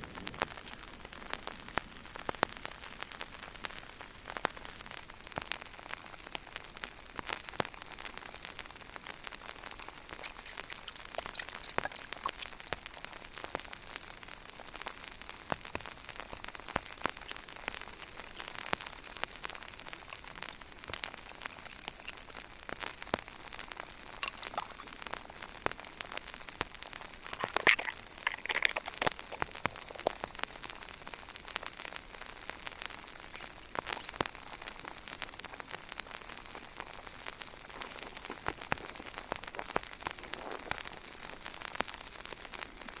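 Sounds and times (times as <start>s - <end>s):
raindrops ticking on surface: 0.0s - 43.0s.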